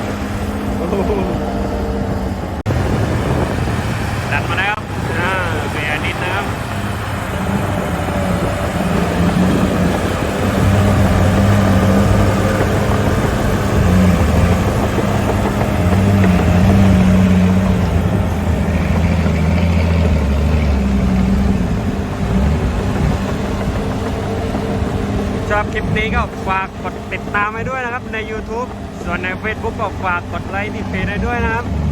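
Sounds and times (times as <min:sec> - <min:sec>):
bulldozer diesel engine working: 0:00.0 - 0:31.9.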